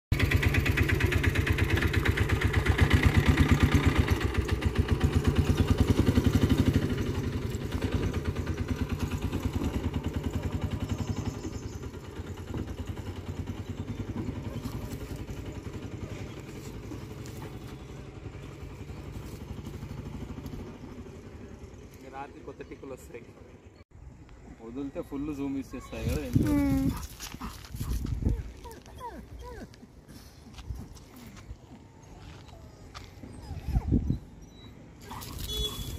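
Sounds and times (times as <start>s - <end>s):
engine running with fast pulse: 0.1s - 23.8s, 26.4s - 35.9s.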